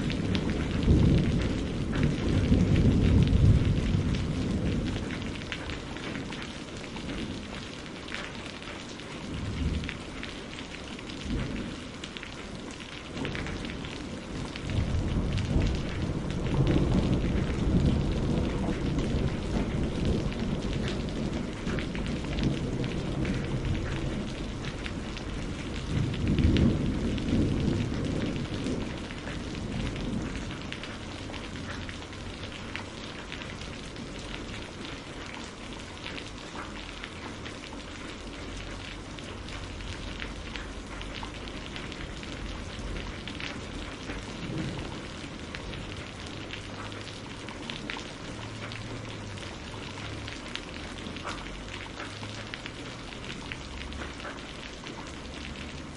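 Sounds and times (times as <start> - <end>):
low rumbles of thunder: 0.0 - 55.9
steady rain falling: 0.0 - 55.9.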